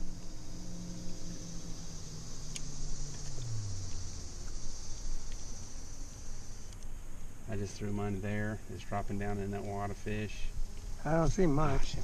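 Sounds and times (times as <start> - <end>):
low motor hum: 0.0 - 12.0
steady high buzz: 0.0 - 12.0.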